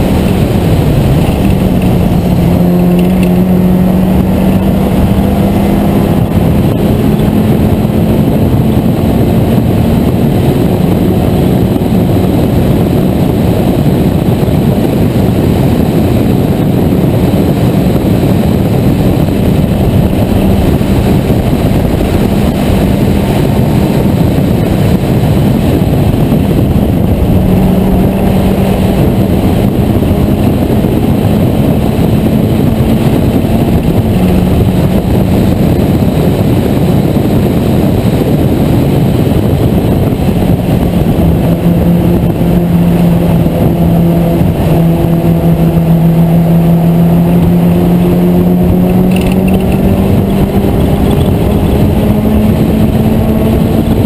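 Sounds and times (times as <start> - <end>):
racing car engine at speed: 0.0 - 54.0
wind roar: 0.0 - 54.0.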